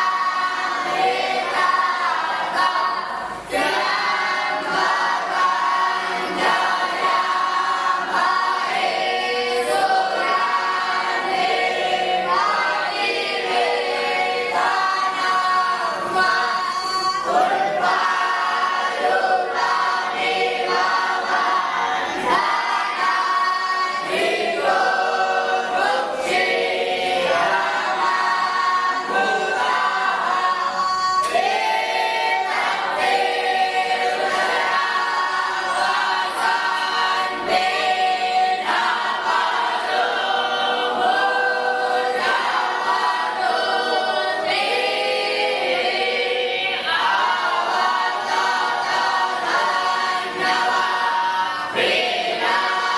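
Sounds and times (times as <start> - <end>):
choir singing long notes: 0.0 - 52.9.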